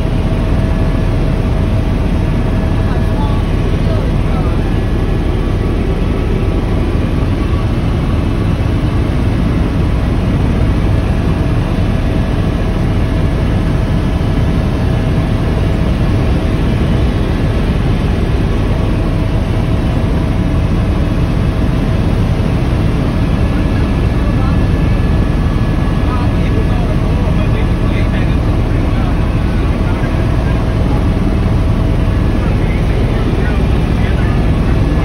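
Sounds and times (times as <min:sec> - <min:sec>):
faint steady whine: 0:00.0 - 0:35.0
helicopter engine and rotor rumble: 0:00.0 - 0:35.0.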